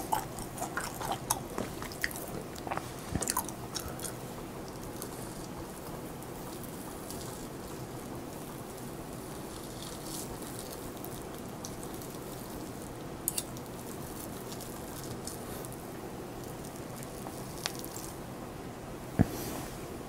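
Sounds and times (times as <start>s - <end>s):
person chewing wetly: 0.0s - 18.1s.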